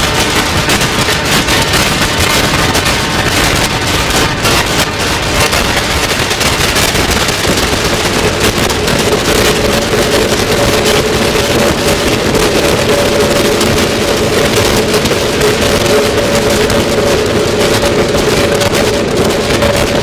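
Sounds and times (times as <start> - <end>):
mid-pitched synth drone: 0.0 - 20.0
noisy synthesizer texture: 0.0 - 20.0.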